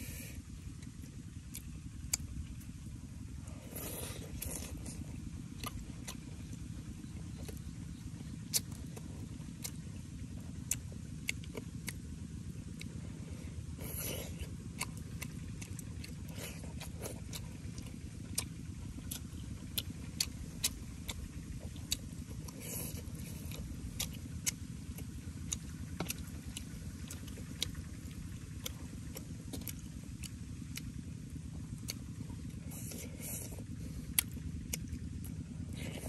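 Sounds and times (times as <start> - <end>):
man chewing: 0.0 - 36.0.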